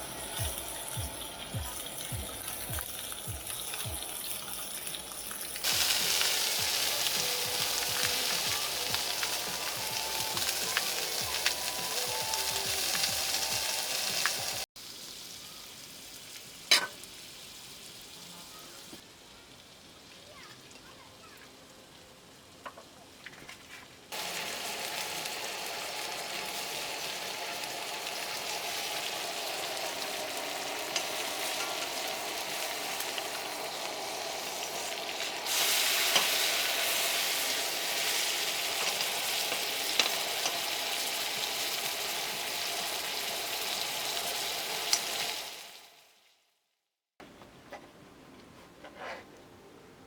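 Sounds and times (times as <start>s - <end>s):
sizzling hiss: 0.0s - 20.5s, 24.1s - 46.2s.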